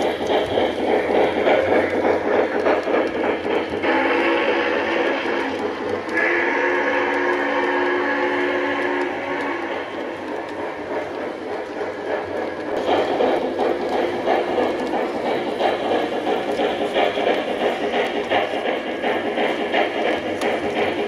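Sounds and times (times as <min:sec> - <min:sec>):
model train rumbling and clattering: 0:00.0 - 0:21.0.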